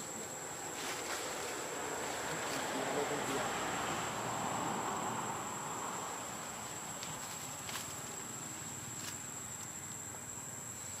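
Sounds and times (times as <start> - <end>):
high-pitched insect call: 0.0 - 11.0.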